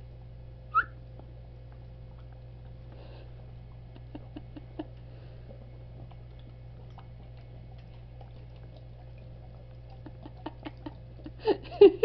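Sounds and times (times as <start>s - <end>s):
steady low hum: 0.0s - 12.0s
dog chewing with mouth smacks: 1.1s - 12.0s.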